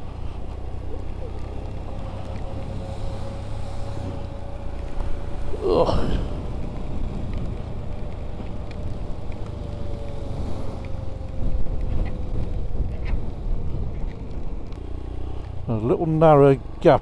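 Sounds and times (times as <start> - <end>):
wind noise: 0.0 - 14.9.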